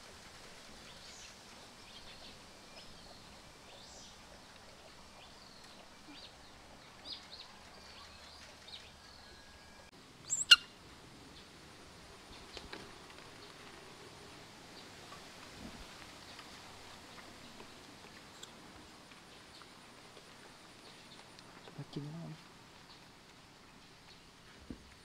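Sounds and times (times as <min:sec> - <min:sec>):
faint outdoor hiss: 0:00.0 - 0:25.0
small birds chirping: 0:00.1 - 0:11.5, 0:16.0 - 0:25.0.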